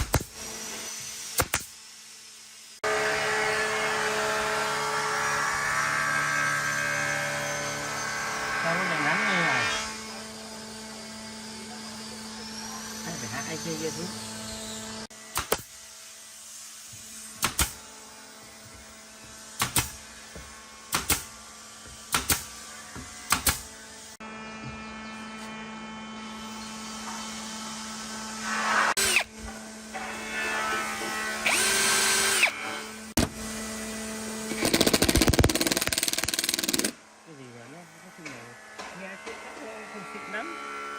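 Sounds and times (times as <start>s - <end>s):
power tool humming: 0.0s - 40.9s.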